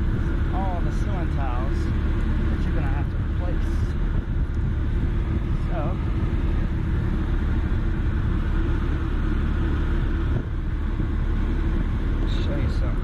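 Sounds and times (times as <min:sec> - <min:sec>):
rooftop air conditioner humming: 0:00.0 - 0:13.0.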